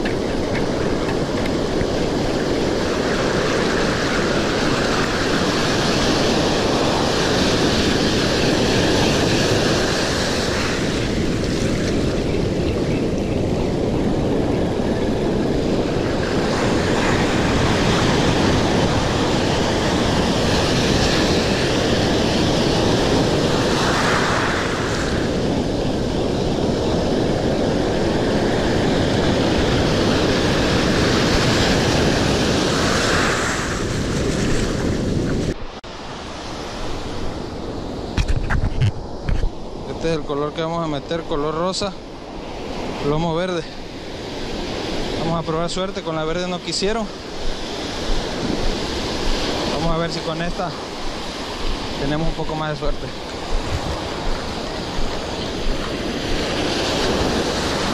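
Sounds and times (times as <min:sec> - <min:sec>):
ocean surf breaking: 0:00.0 - 0:57.9
wind on microphone: 0:00.0 - 0:57.9.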